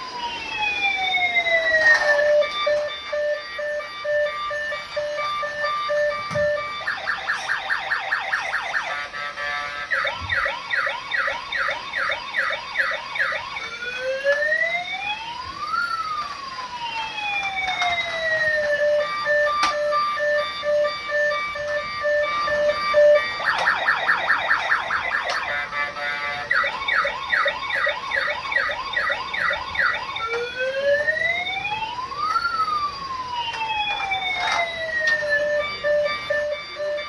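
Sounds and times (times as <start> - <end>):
toy electronic police siren: 0.0 - 37.0.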